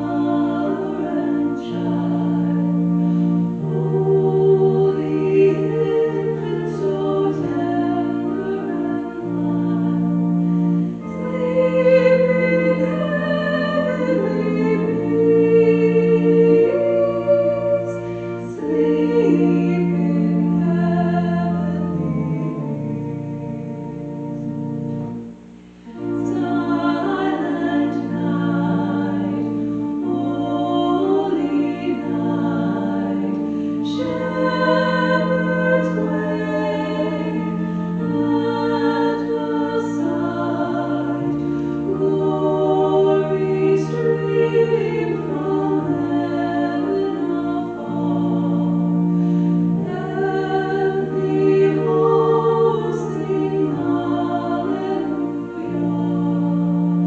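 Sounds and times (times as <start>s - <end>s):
choir singing a hymn: 0.0s - 25.3s, 25.9s - 57.0s
organ: 0.0s - 57.0s.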